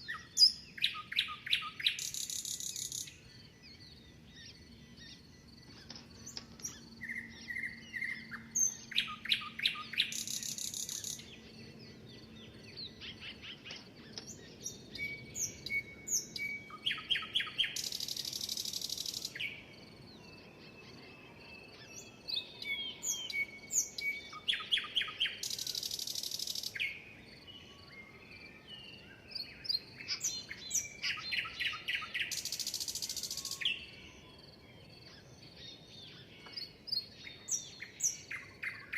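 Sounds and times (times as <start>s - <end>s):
faint bird chirps: 0.0s - 38.9s
songbird singing trill: 0.0s - 38.9s.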